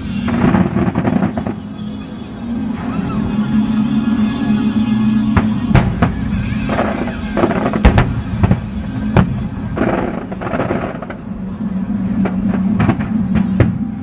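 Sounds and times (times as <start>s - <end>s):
aerial fireworks bursting: 0.0s - 4.0s, 4.6s - 14.0s
steady low drone: 0.0s - 14.0s.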